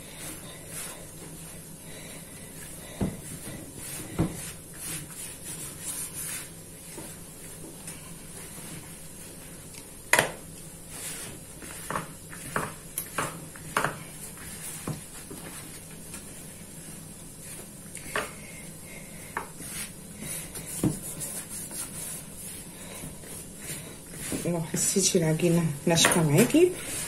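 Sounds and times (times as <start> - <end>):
hands kneading dough: 0.0 - 27.0.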